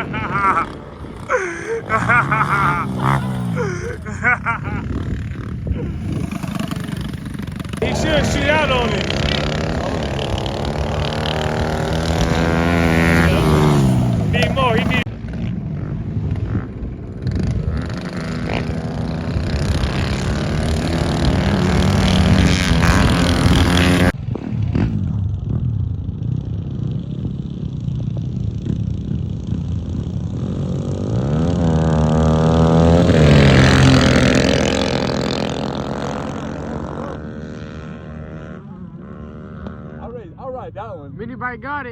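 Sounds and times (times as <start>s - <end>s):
mini bike engines revving: 0.0s - 40.3s.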